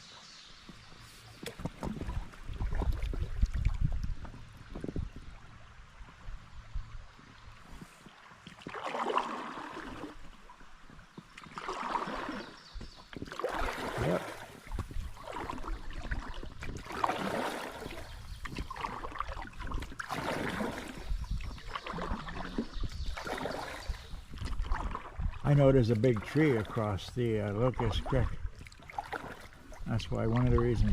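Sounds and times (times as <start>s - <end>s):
paddle splashing in water: 0.1s - 6.3s, 7.1s - 30.9s.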